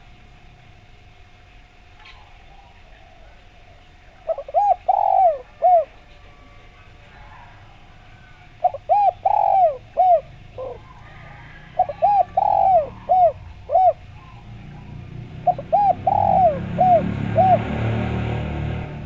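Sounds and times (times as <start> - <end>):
dove cooing: 2.0 - 19.0.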